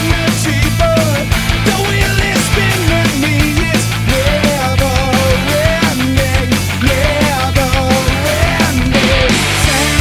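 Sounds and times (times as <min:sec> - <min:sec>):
loud rock music: 0:00.0 - 0:10.0.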